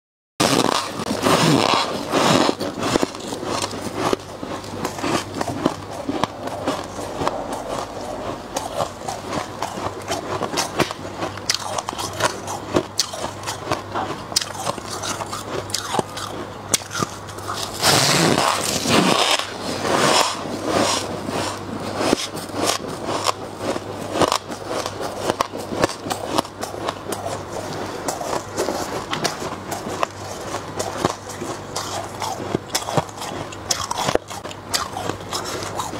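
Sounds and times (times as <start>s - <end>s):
frost crunching: 0.4s - 35.9s.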